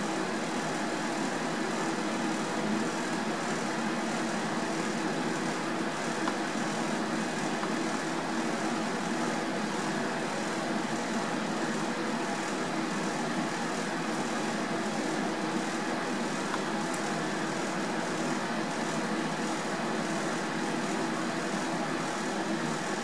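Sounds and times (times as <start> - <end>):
ventilation fans whirring: 0.0 - 23.0.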